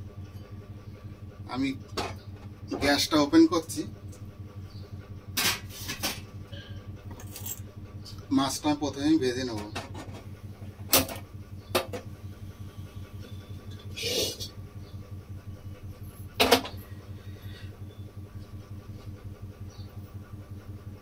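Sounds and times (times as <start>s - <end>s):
low pulsing hum: 0.0s - 21.0s.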